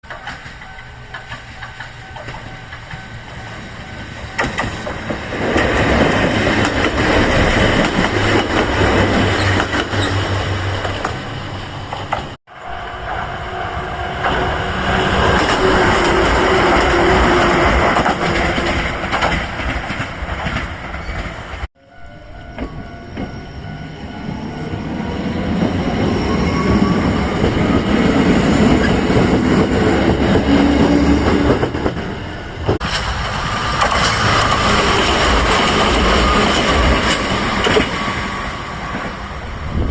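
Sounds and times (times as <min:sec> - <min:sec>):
train wheels clattering on rails: 0:00.0 - 0:12.4, 0:14.2 - 0:21.7, 0:25.4 - 0:39.2.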